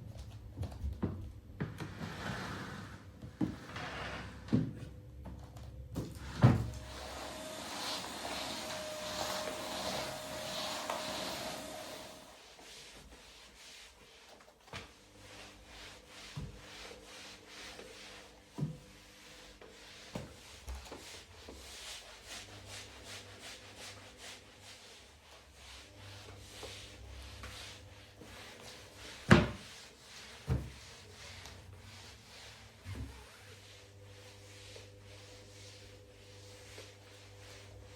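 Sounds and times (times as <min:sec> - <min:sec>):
rubbing and scraping handling: 0:06.7 - 0:37.9.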